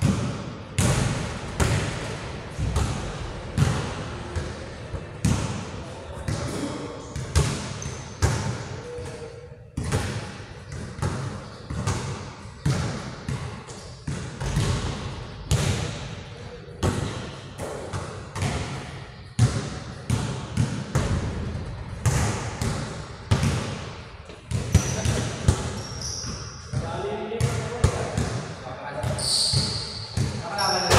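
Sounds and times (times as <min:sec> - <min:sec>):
basketball bouncing in gym: 0:00.0 - 0:30.9.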